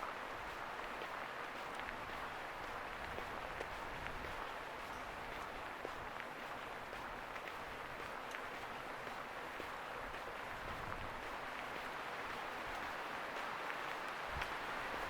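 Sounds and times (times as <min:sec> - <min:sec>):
street ambience: 0:00.0 - 0:15.0.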